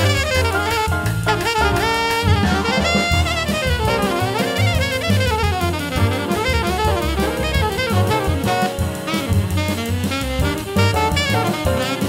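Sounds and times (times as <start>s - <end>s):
drum kit: 0.0s - 12.0s
piano: 0.0s - 12.0s
saxophone melody: 0.0s - 12.0s
walking double bass: 0.0s - 12.0s.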